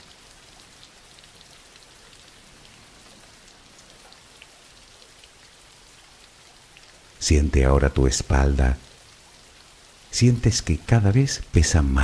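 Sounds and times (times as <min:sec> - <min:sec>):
faint steady rain: 0:00.0 - 0:12.0
rain drop ticks: 0:00.0 - 0:12.0.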